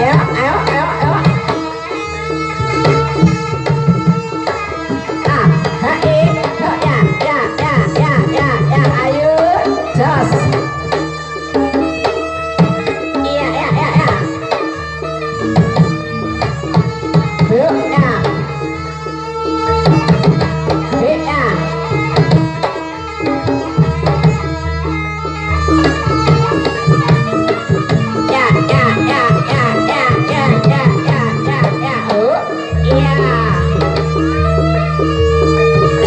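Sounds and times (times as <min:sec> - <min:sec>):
hand drum patterns: 0:00.0 - 0:36.0
metallic pitched tones: 0:00.0 - 0:36.0
wavering melody: 0:00.0 - 0:36.0.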